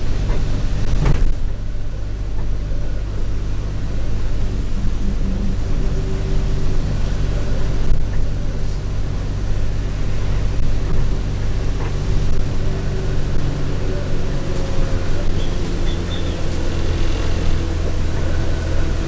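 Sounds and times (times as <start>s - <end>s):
bus engine drone: 0.0s - 19.0s
road noise: 0.0s - 19.0s
turbo whine: 0.0s - 19.0s.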